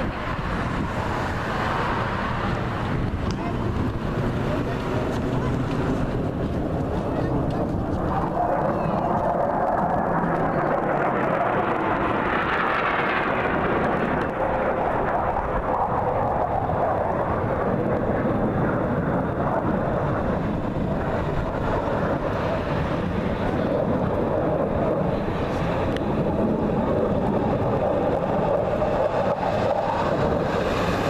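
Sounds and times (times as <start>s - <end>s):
airplane flying past: 0.0s - 31.0s.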